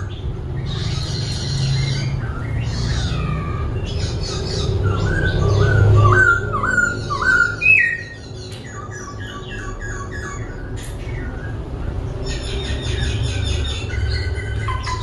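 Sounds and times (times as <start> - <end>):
bird singing and chattering: 0.0 - 15.0.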